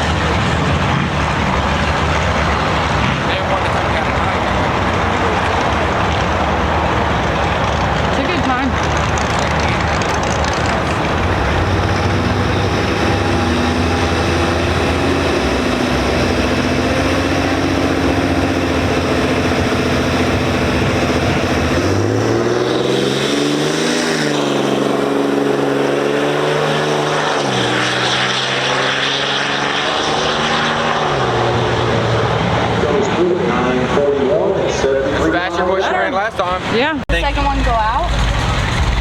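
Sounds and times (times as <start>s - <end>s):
vehicle engine running: 0.0s - 26.0s, 29.9s - 39.0s.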